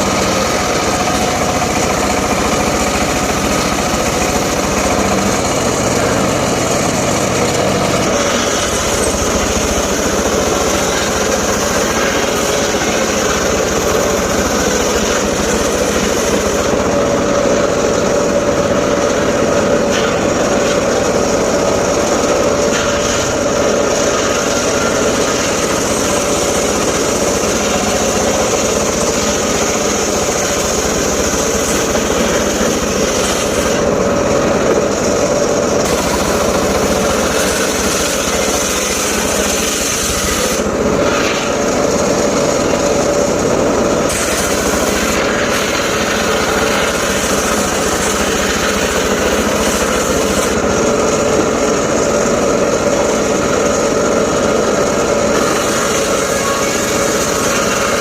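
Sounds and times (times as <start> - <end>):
power saw engine running: 0.0 - 58.0.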